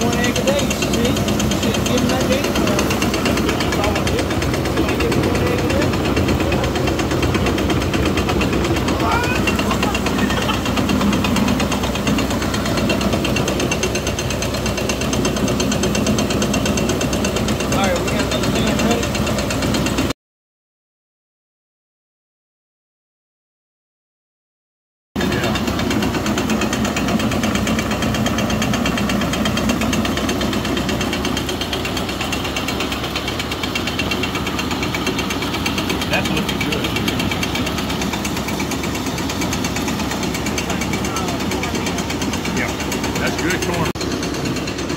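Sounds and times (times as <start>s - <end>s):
tractor engine running: 0.0s - 20.2s, 25.2s - 44.9s.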